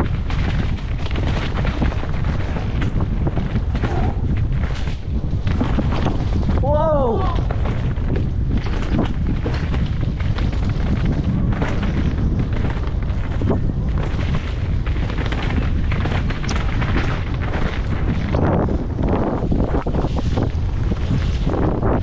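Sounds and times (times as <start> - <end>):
bike clattering over roots: 0.0 - 22.0
bike tyres rolling on trail: 0.0 - 22.0
wind on microphone: 0.0 - 22.0.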